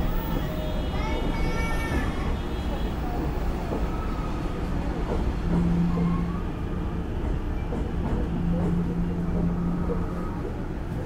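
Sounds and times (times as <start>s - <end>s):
train equipment low rumble: 0.0s - 11.0s.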